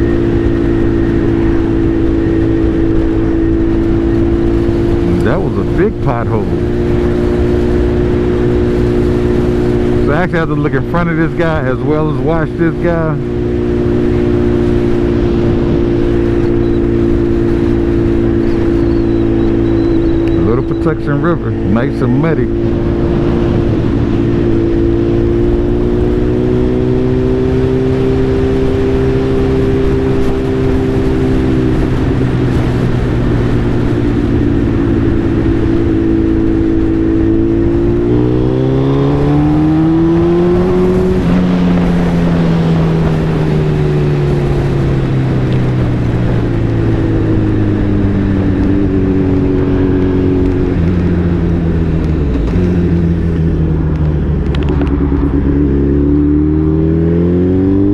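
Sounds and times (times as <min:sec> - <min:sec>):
motorcycle engine accelerating: 0:00.0 - 0:57.9.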